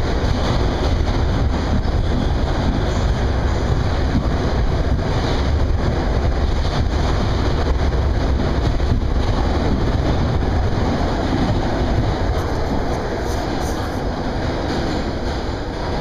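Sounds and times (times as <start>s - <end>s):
subway car rumbling on track: 0.0s - 16.0s.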